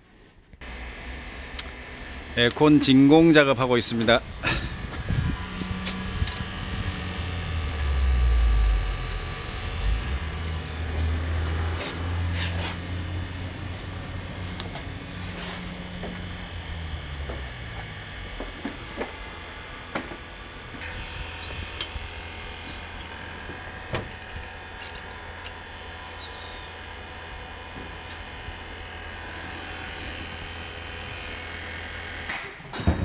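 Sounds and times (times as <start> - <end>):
vacuum pump running: 0.6 - 32.6.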